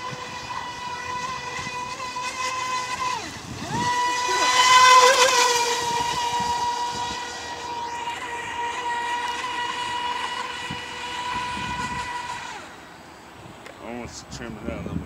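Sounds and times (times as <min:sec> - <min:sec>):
boat motor whining: 0:00.0 - 0:15.0.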